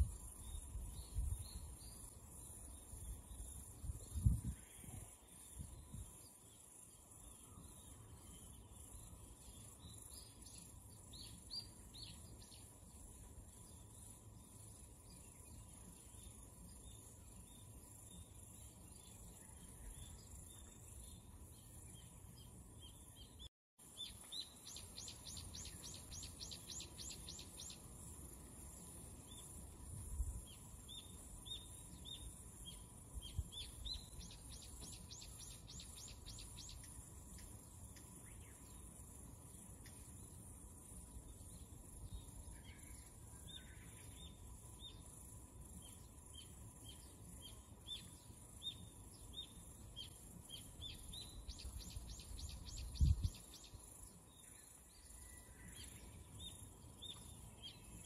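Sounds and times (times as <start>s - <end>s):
small bird chirping: 0.0s - 58.0s.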